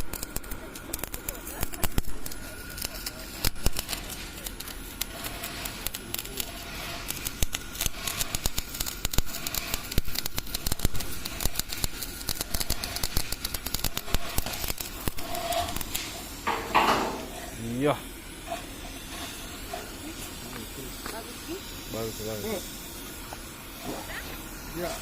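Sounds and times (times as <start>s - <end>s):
welding arc crackling: 0.0s - 25.0s.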